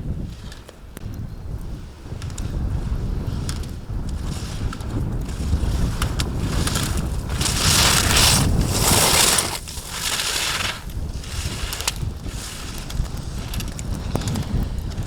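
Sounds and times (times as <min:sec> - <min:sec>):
wind rumbling on microphone: 0:00.0 - 0:15.0
skis scraping over hard snow: 0:02.4 - 0:15.0.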